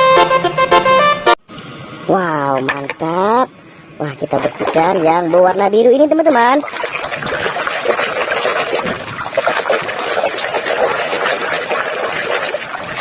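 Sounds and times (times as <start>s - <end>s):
water splashing and sloshing: 2.6s - 13.0s.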